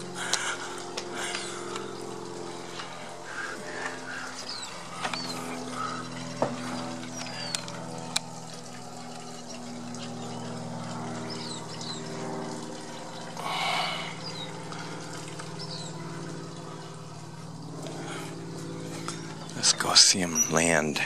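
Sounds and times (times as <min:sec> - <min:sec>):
pump humming: 0:00.0 - 0:21.0
water trickling: 0:00.0 - 0:21.0.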